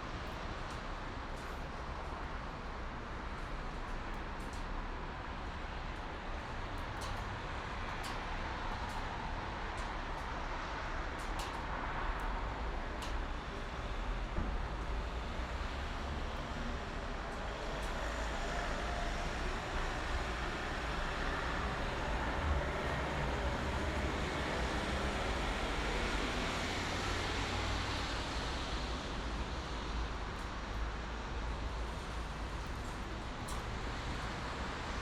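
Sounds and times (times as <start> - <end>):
highway traffic noise: 0.0 - 35.0.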